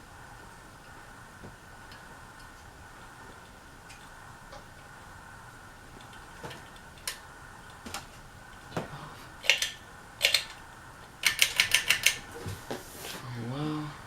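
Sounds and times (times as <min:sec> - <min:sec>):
ceiling fan hum: 0:00.0 - 0:14.0
ceiling fan ticking and clicking: 0:00.0 - 0:14.0.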